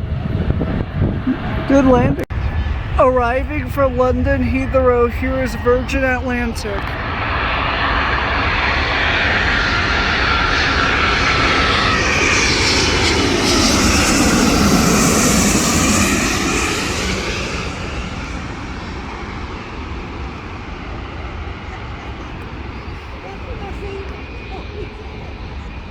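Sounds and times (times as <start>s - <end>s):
jet airliner passing overhead: 0.0s - 25.9s
jet engine whine: 0.0s - 25.9s.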